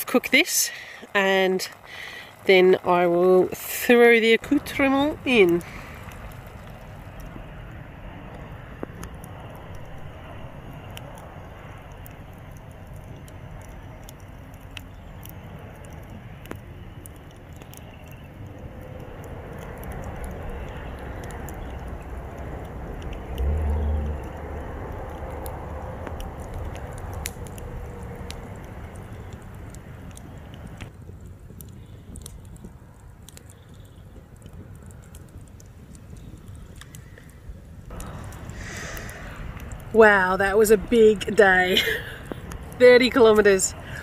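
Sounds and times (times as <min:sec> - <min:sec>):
campfire crackling and popping: 0:00.0 - 0:44.0
low rumble: 0:04.4 - 0:32.3, 0:34.4 - 0:44.0.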